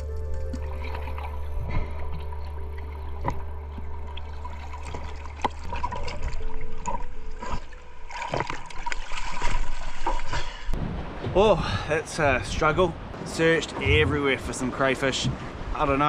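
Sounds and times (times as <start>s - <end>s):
low steady hum: 0.0s - 15.9s
water sloshing and trickling: 0.0s - 16.0s.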